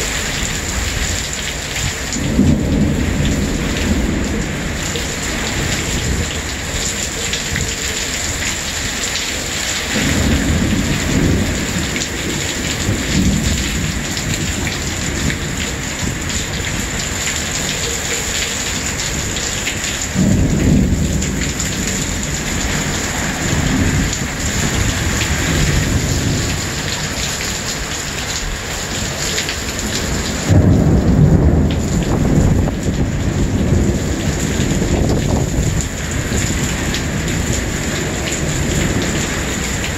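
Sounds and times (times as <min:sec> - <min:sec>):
heavy rain pouring: 0:00.0 - 0:39.9
thunder rumbling: 0:00.0 - 0:39.9.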